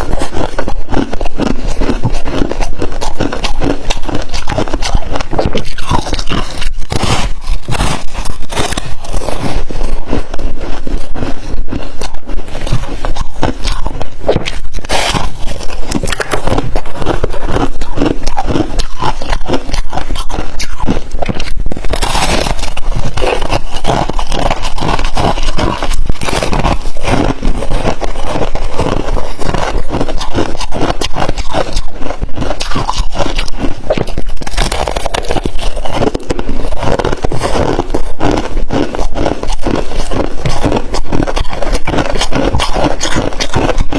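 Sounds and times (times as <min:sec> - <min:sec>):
frost crunching being chewed: 0:00.0 - 0:43.9.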